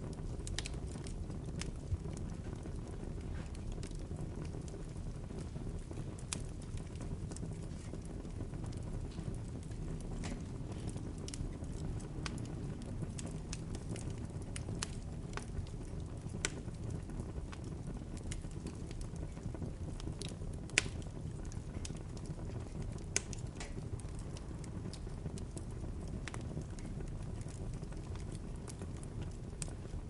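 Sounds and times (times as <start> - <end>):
bonfire crackling: 0.0 - 30.0
fire popping and snapping: 0.0 - 30.0.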